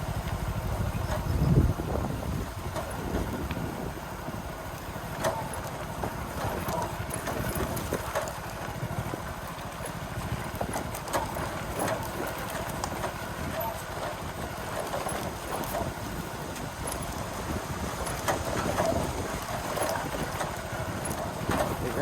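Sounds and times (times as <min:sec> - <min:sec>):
bike knocks and rattles: 0:00.0 - 0:22.0
motorcycle engine running: 0:00.0 - 0:22.0.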